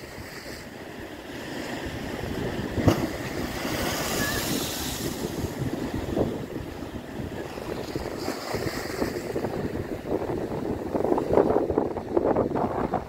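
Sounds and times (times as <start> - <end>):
waves washing and splashing: 0.0 - 13.0
wind buffeting microphone: 1.8 - 13.0.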